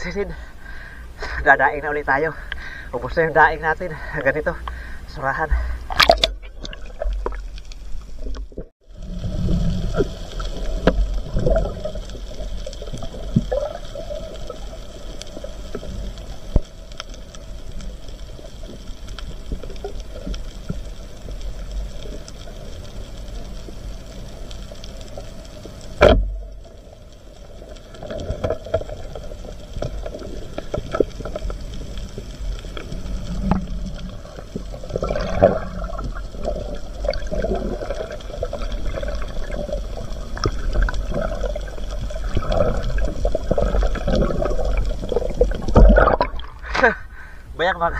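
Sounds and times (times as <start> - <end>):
underwater low rumble: 0.0 - 47.6
small clicks and crackles: 2.1 - 47.1.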